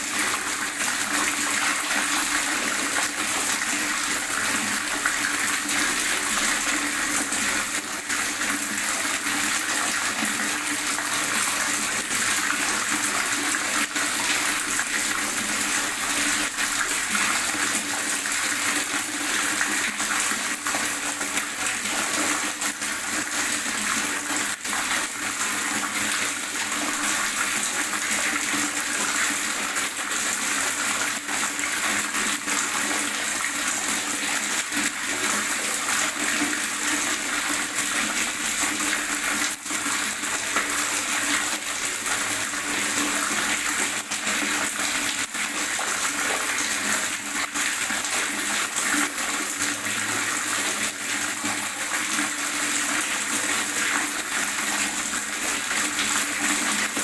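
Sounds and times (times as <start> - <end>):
water gurgling and splashing: 0.0 - 57.0.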